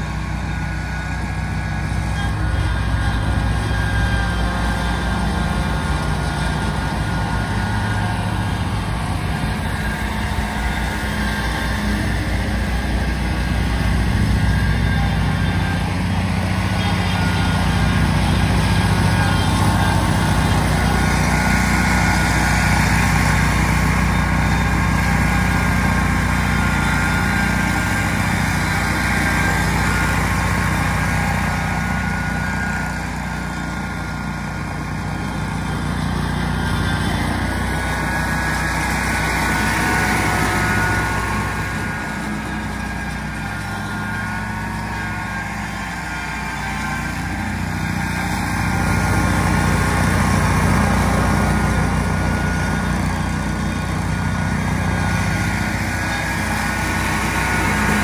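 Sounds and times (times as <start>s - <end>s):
mower engine cutting grass: 0.0s - 58.0s.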